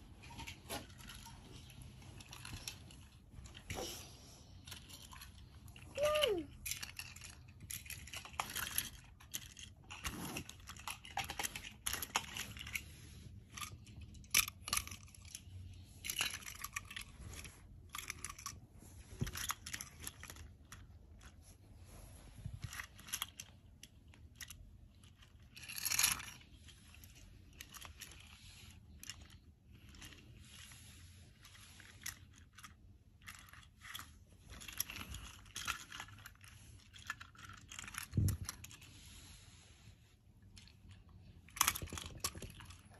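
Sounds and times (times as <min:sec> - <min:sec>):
toy trains clicking and scraping: 0:00.0 - 0:42.9.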